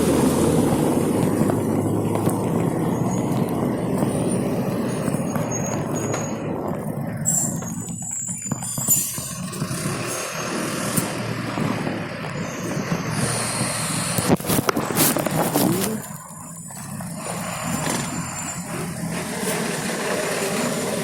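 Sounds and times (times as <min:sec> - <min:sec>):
wind buffeting microphone: 0:00.0 - 0:20.2
wet road noise: 0:00.0 - 0:21.0.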